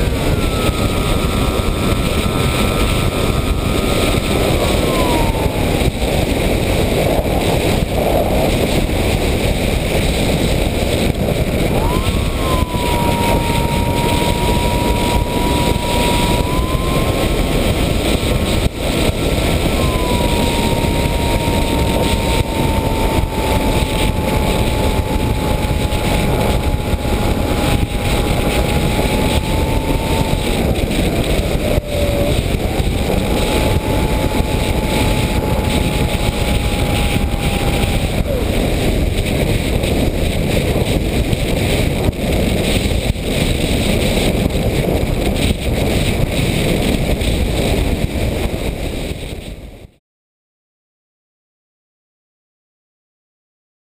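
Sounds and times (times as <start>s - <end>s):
model aircraft motor whining: 0.0s - 47.0s
wind noise: 0.0s - 50.0s.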